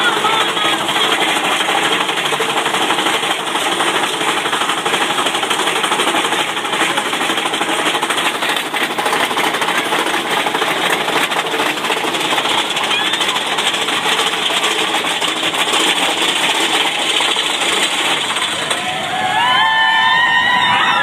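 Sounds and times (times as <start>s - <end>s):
roller coaster rattling on steel track: 0.0s - 21.0s.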